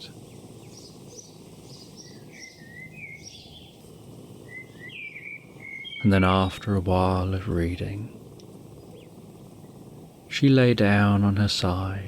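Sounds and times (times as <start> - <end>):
small birds chirping: 0.0 - 11.3
faint steady hiss: 0.0 - 12.0.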